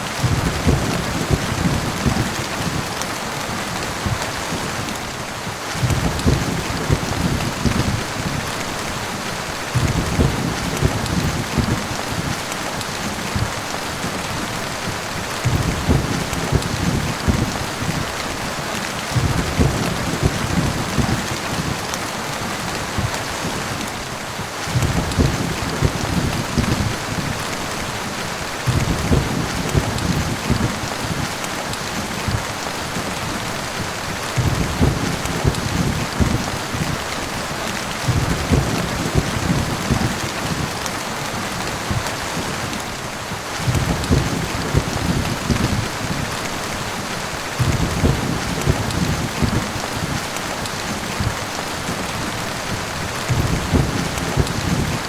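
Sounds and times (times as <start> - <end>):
heavy rain falling: 0.0 - 55.0
thunder rumbling: 0.1 - 2.9, 5.7 - 18.2, 19.1 - 21.8, 24.6 - 31.4, 33.8 - 40.8, 41.6 - 55.0.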